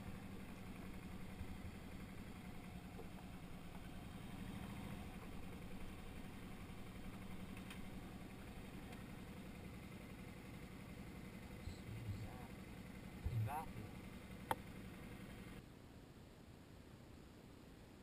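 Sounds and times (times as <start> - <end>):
motorcycle engine idling: 0.0 - 15.6.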